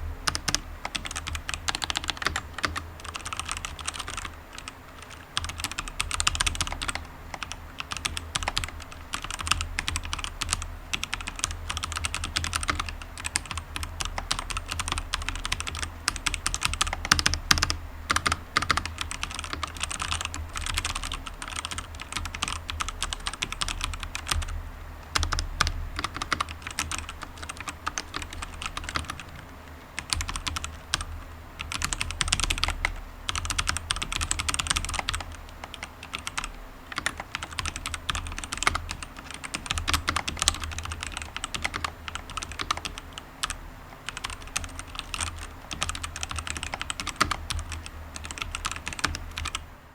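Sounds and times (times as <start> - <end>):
mechanical keyboard typing: 0.3 - 24.5, 25.1 - 49.6.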